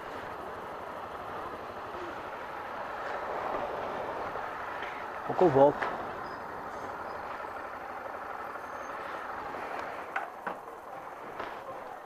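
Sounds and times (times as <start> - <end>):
minibus passing: 0.0 - 12.0.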